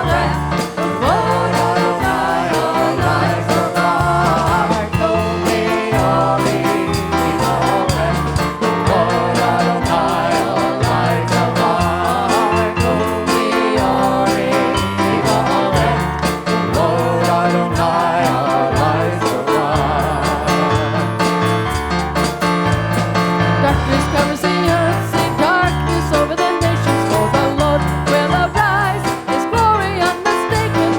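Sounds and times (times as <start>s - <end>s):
band with steady beat and bass: 0.0s - 30.9s
worship song singing: 0.0s - 30.9s.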